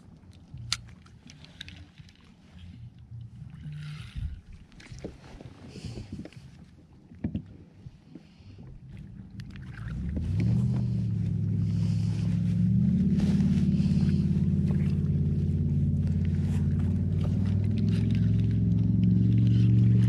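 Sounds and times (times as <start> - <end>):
boat motor starting and running: 0.0 - 20.0.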